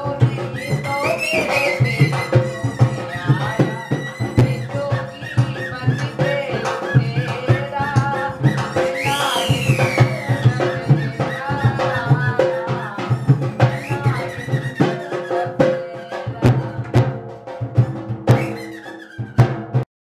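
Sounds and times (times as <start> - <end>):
hand drum beating: 0.0 - 19.8
sharp drum strikes: 0.0 - 19.9.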